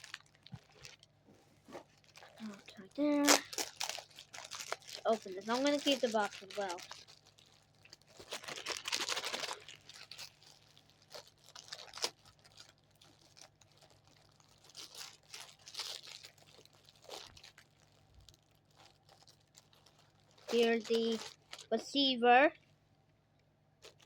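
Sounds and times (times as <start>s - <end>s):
packaging clicks and crinkles: 0.0s - 21.8s, 23.8s - 24.0s
cardboard packaging rustling: 0.0s - 21.9s.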